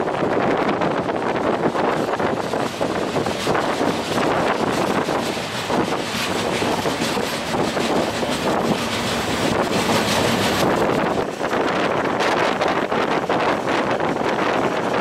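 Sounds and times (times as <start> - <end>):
passenger train running: 0.0 - 15.0
wind buffeting microphone: 0.0 - 15.0.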